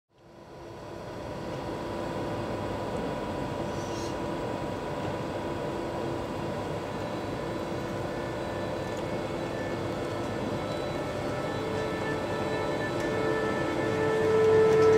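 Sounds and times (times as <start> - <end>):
electric locomotive humming: 0.2 - 14.9.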